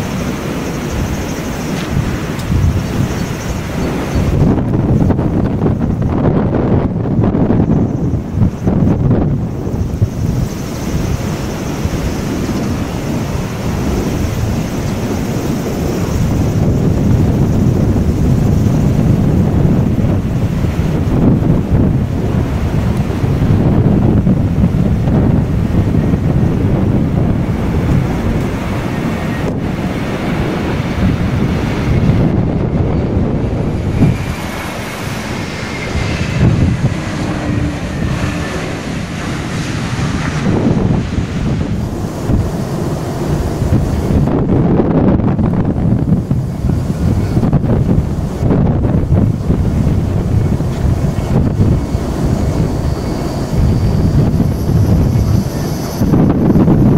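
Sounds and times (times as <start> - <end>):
jet airliner engine noise: 0.0 - 56.9
wind buffeting microphone: 0.0 - 56.9.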